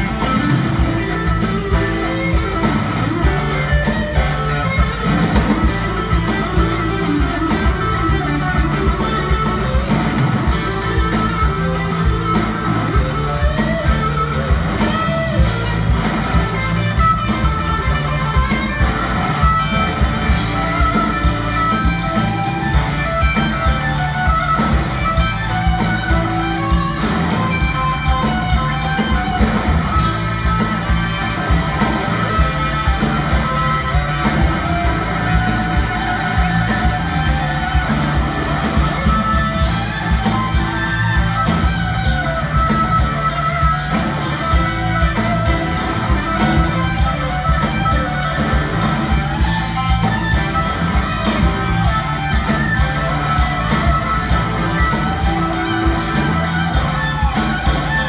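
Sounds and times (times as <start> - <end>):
bass guitar: 0.0 - 58.0
drums: 0.0 - 58.0
electric guitar lead: 0.0 - 58.0.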